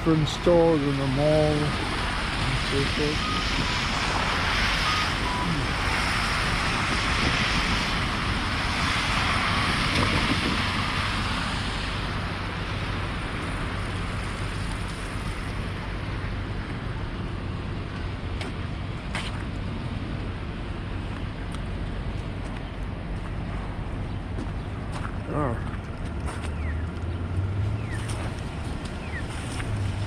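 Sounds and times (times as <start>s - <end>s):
traffic rumble and tyre hiss: 0.0s - 30.0s.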